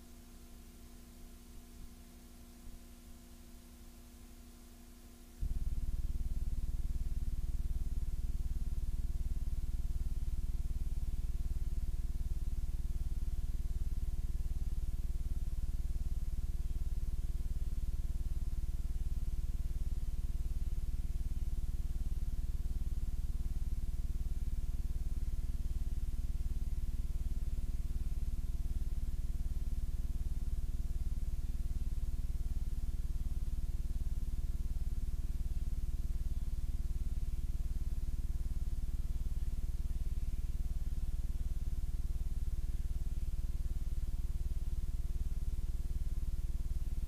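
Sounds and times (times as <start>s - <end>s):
faint tape hiss: 0.0s - 47.0s
low electrical hum: 0.0s - 47.0s.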